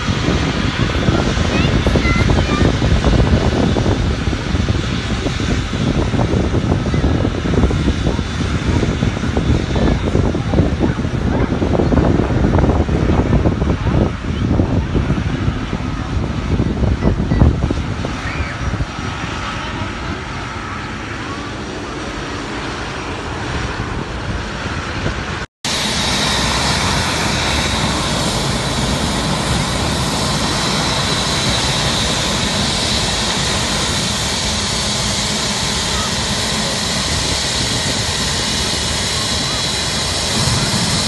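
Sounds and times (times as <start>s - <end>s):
high jet engine whine: 0.0s - 41.0s
jet airliner taxiing: 0.0s - 41.0s.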